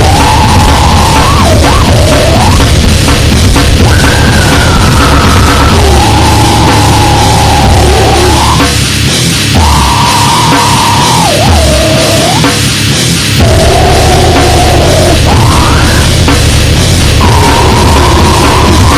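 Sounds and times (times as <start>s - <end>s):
distorted noise music: 0.0s - 18.9s.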